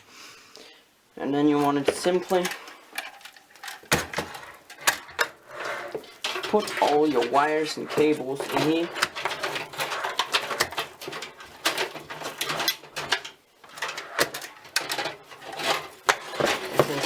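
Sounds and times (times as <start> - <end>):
cables clicking against metal case: 1.5 - 17.0.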